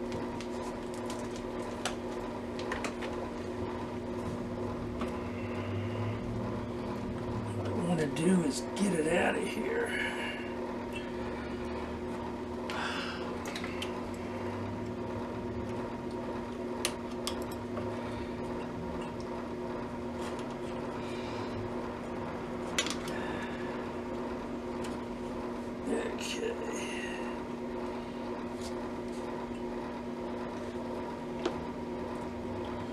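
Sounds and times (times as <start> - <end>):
electrical hum: 0.0 - 32.9.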